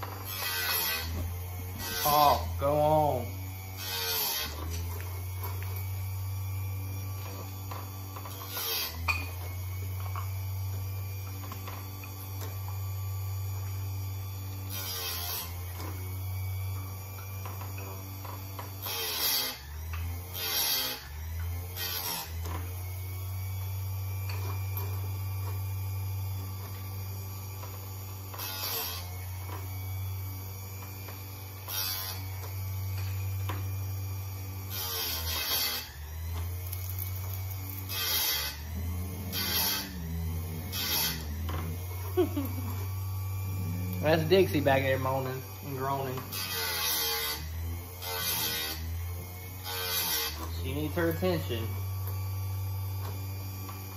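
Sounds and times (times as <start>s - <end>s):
grinding wheel on metal: 0.0s - 53.9s
sharpener motor hum: 0.0s - 53.9s.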